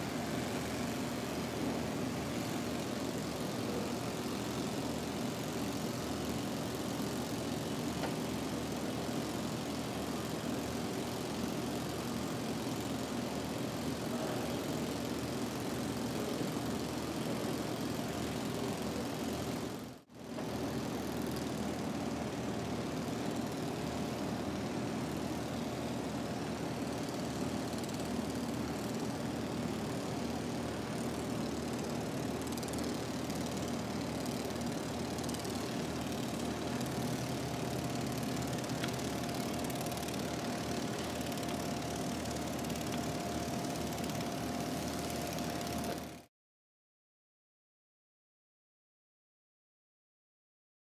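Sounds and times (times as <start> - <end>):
ornithopter buzzing drone: 0.0 - 46.3.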